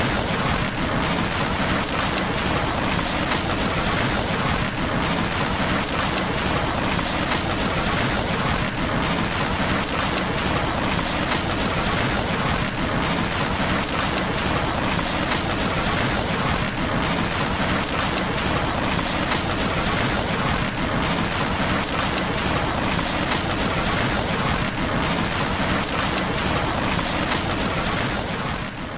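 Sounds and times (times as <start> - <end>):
rain on window glass: 0.0 - 28.9.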